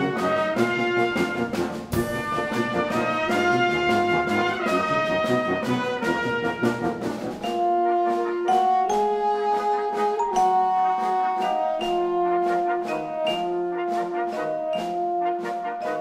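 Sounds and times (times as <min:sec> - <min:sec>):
instrumental music with held notes: 0:00.0 - 0:16.0.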